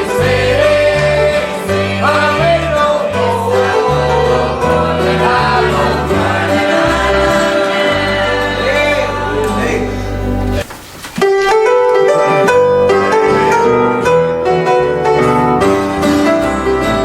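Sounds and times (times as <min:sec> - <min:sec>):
piano music: 0:00.0 - 0:10.6, 0:11.2 - 0:17.0.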